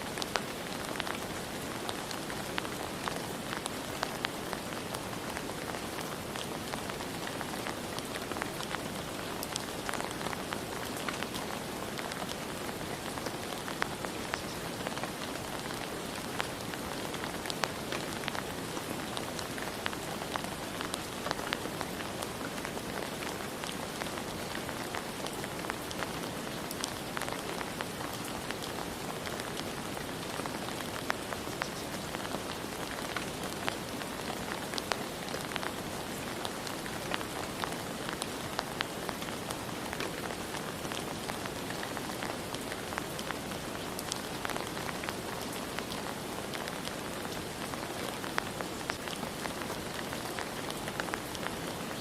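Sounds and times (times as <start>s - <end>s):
rain drops hitting a surface: 0.0s - 52.0s.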